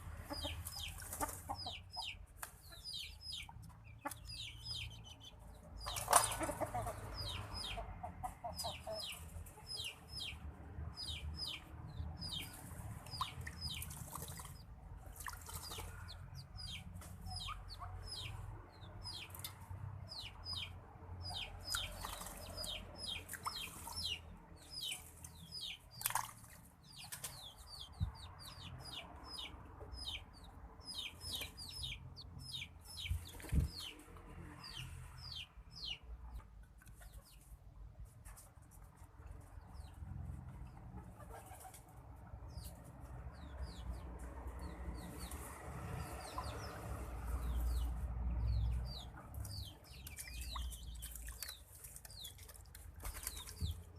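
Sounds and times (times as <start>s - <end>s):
birds chirping: 0.0s - 37.6s, 39.3s - 53.9s.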